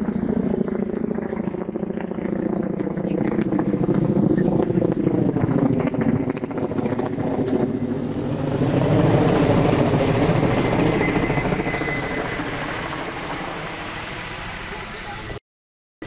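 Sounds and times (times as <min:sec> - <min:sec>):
engine drone with fast throb: 0:00.0 - 0:15.4.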